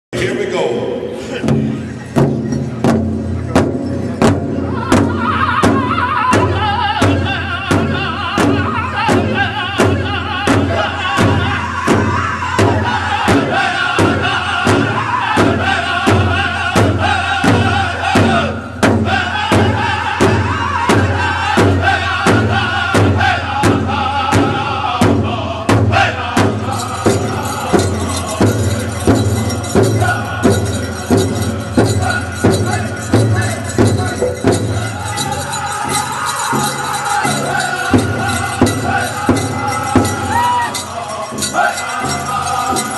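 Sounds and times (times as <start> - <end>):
large hide drum beating: 1.4 - 42.9
men singing: 4.5 - 42.9.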